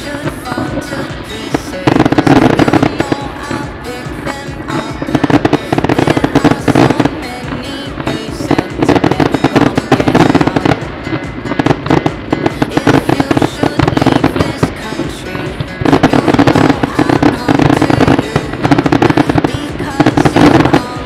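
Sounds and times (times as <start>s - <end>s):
fireworks popping and crackling: 0.0s - 21.0s.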